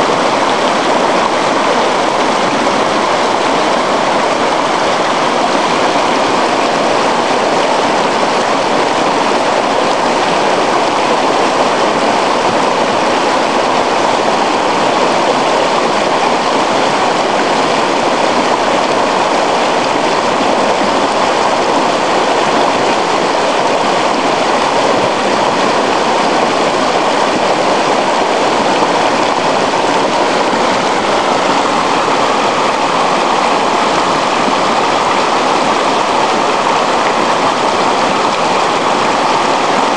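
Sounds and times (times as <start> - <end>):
river running over rocks: 0.0 - 39.9.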